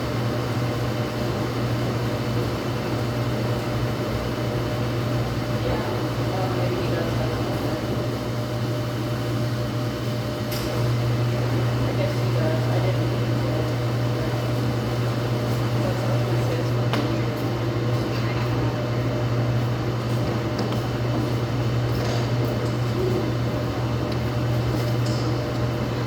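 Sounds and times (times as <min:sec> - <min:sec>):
laundry machines humming: 0:00.0 - 0:26.0.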